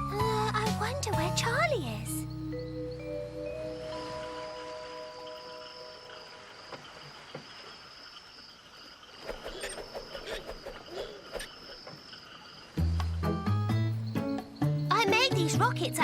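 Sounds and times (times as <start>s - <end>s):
crickets chirping: 0.3s - 16.0s.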